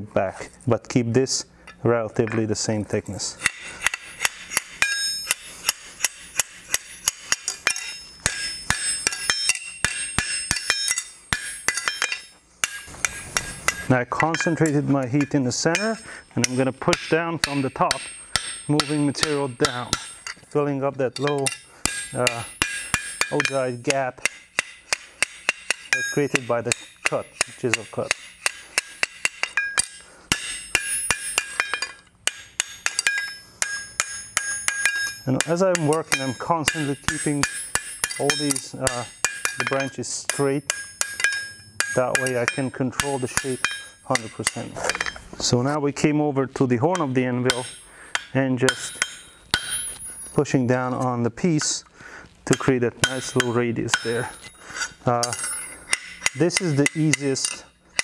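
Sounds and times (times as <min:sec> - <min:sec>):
hammer striking steel on anvil: 0:03.2 - 0:51.9, 0:52.5 - 0:58.0.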